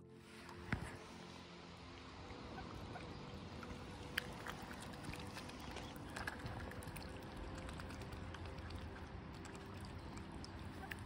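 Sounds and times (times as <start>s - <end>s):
small water splashes and drips: 0.7s - 11.0s.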